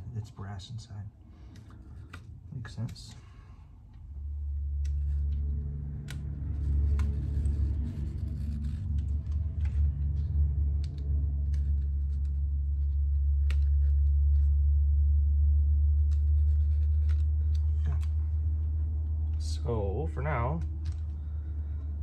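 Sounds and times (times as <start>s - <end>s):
steady low hum: 0.0s - 22.0s
faint clicks and rustles: 1.3s - 19.5s.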